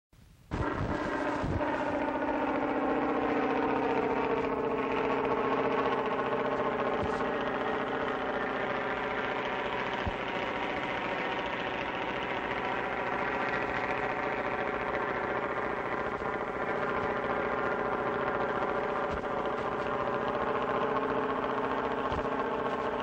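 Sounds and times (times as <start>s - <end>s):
piston aircraft engine droning: 0.2s - 23.0s.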